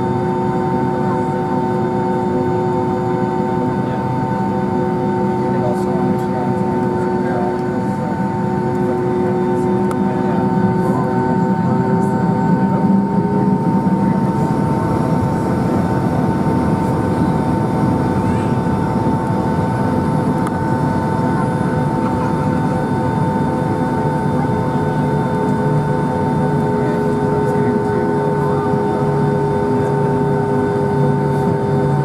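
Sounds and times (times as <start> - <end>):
jet engines whining: 0.0 - 32.0
constant cabin rumble: 0.1 - 32.0.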